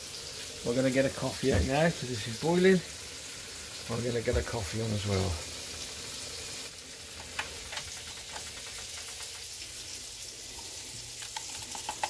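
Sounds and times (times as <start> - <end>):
pork sizzling in a pan: 0.0 - 12.0.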